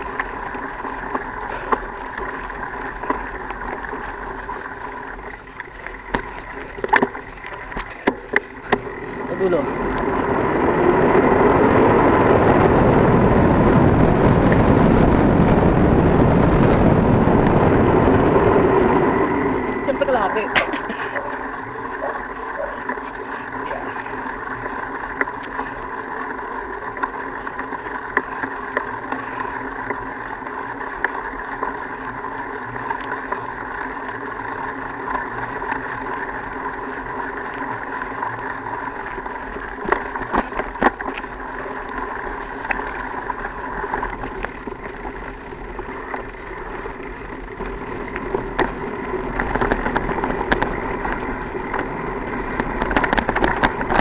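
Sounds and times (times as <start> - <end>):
bicycle riding on dirt trail: 0.0 - 54.0.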